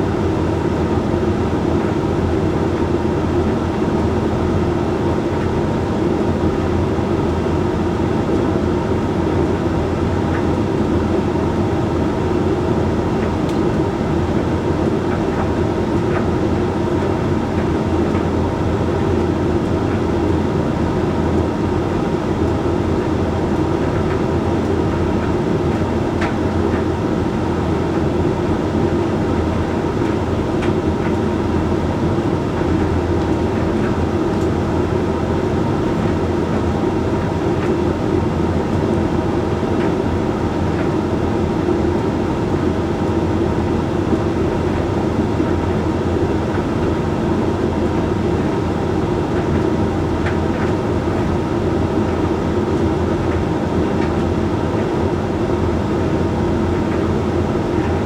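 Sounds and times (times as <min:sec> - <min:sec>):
tumble dryer drum rumble: 0:00.0 - 0:58.0.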